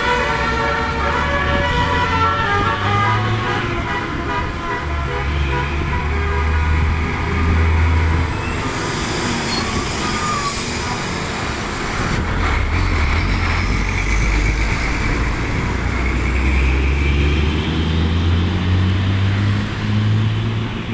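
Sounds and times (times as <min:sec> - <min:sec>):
bus engine running: 0:00.0 - 0:20.9
road traffic: 0:00.0 - 0:20.9.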